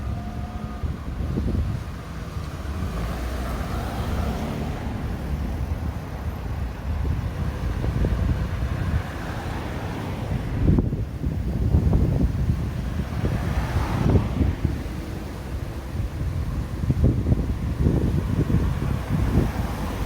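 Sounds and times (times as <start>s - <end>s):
road traffic rumble: 0.0s - 20.0s
wind buffeting microphone: 0.0s - 20.0s.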